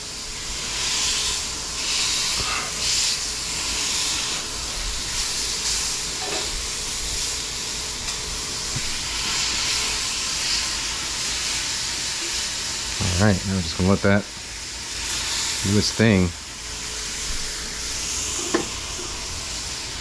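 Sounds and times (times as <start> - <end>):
meat sizzling on a griddle: 0.0 - 20.0.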